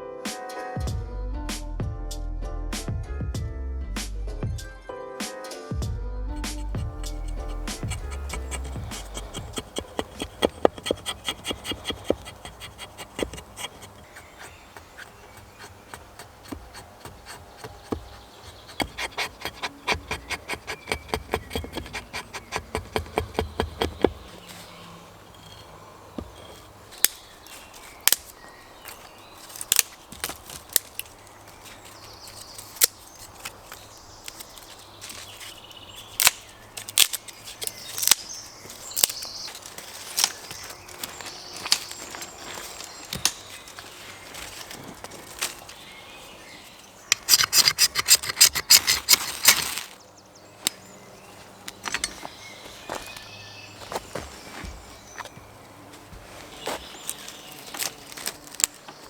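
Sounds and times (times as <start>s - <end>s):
hand tools knocking wood: 6.4s - 45.8s, 47.1s - 50.0s, 51.6s - 59.0s.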